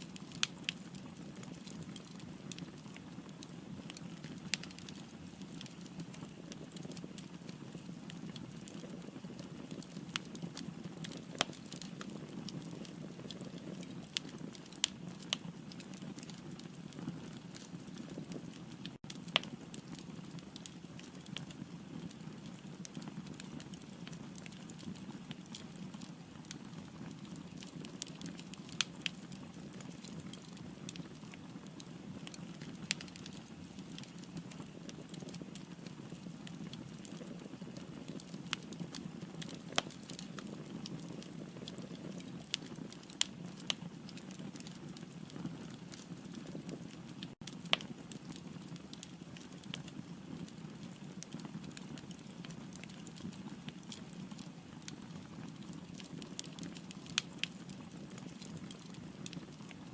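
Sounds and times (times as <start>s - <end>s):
fire crackles and pops: 0.0s - 59.9s
low rumble of fire: 0.0s - 59.9s.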